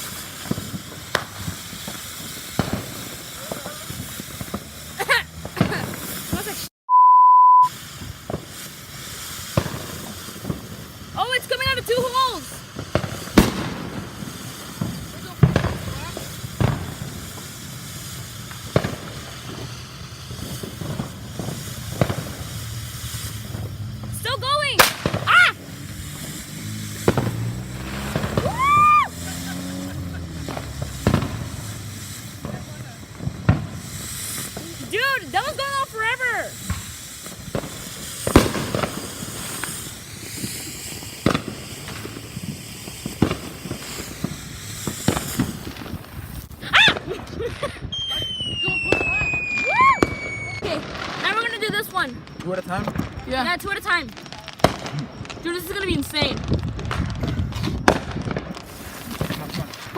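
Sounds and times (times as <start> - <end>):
firework hissing and popping: 0.0 - 6.7, 7.6 - 59.9
sharp firework bangs: 0.0 - 6.7, 7.7 - 59.9.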